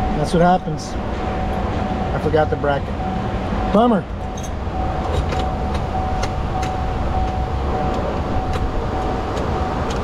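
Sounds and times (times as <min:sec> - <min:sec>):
thin steady tone: 0:00.0 - 0:09.8.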